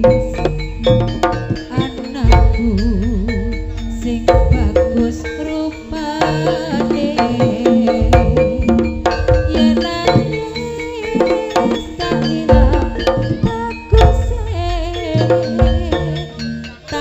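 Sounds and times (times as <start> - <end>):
hand drums beating: 0.0 - 17.0
ringing metallophone notes: 0.0 - 17.0
wavering melody line: 0.0 - 17.0.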